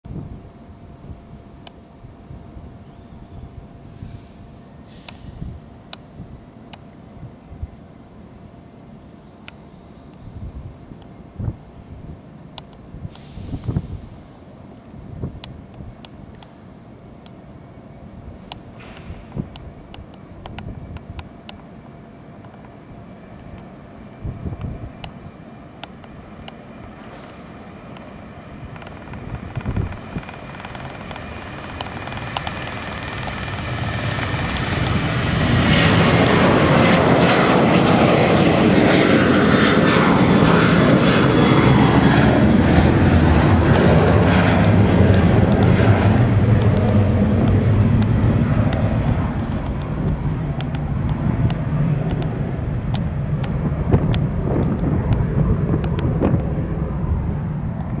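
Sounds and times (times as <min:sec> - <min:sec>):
jet engines at takeoff: 0:00.1 - 0:58.0.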